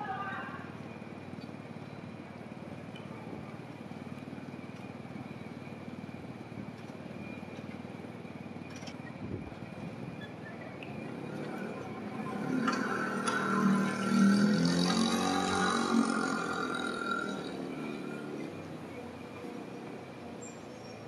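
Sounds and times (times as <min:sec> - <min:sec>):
streetcar wheels rumbling: 0:00.0 - 0:21.0.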